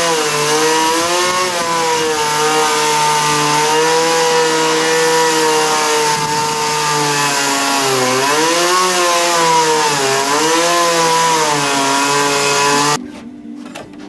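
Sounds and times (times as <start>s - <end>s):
chainsaw engine running hard: 0.0s - 13.0s.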